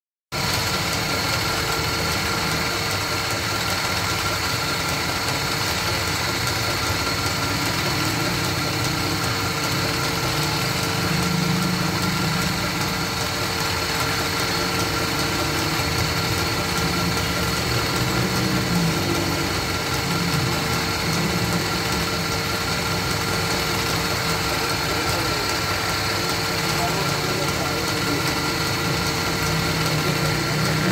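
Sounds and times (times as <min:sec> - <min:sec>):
wood lathe humming and whining: 0:00.4 - 0:30.9.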